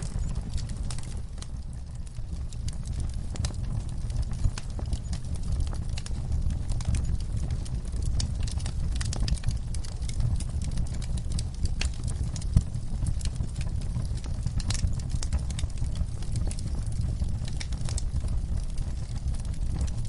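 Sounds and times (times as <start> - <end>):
steady low rumble: 0.0 - 20.0
wood fire crackling and popping: 0.0 - 20.0.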